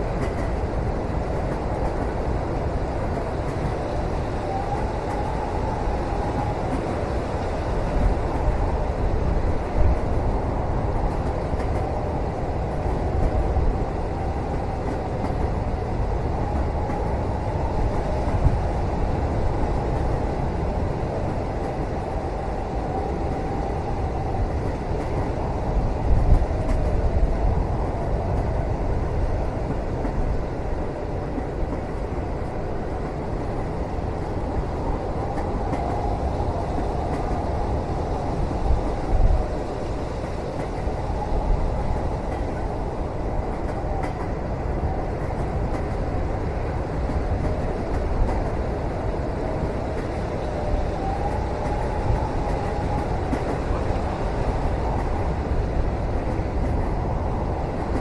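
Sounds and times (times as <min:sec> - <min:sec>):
train carriage rumble: 0:00.0 - 0:58.0.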